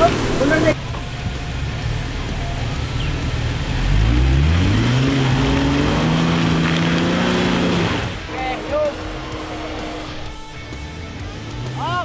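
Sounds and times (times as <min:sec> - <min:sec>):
engine revving under load: 0:01.2 - 0:12.0.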